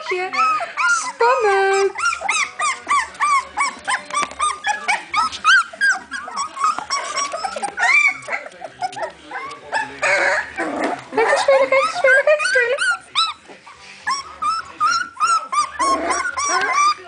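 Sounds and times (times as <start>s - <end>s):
puppies yipping and whining: 0.0s - 17.0s.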